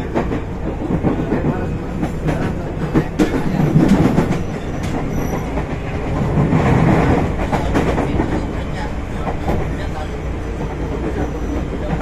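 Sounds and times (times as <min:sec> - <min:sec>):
rail joint clacks: 0:00.0 - 0:12.0
train wheels and motors rumbling: 0:00.0 - 0:12.0.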